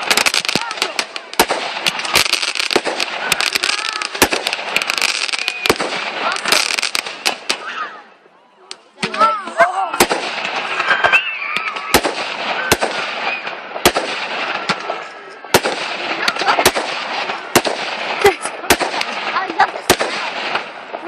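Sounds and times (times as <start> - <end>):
firework bangs: 0.0 - 7.8, 9.0 - 21.0
fireworks crackling: 0.0 - 8.0, 8.7 - 21.0.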